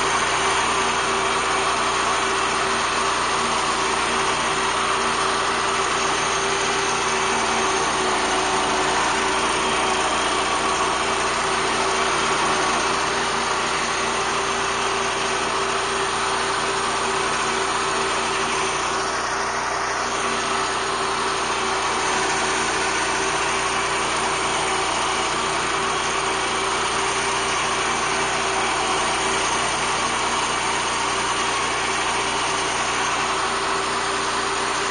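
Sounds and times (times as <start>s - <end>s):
mower cutting grass: 0.0s - 34.9s
walk-behind tractor engine running: 0.0s - 34.9s.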